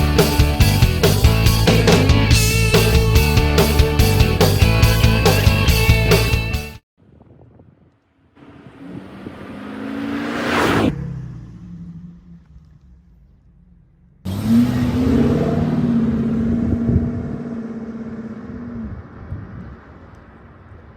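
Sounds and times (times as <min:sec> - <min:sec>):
car engine accelerating: 0:00.0 - 0:06.4, 0:08.3 - 0:20.9.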